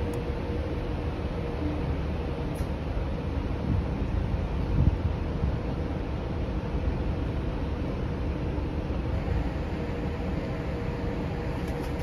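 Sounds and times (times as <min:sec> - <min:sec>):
faint steady hum: 0:00.0 - 0:12.0
ship machinery rumble: 0:00.0 - 0:12.0.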